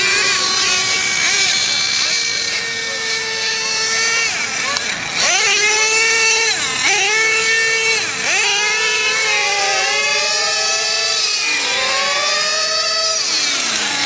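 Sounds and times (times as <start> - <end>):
small two-stroke engines revving: 0.0 - 14.0.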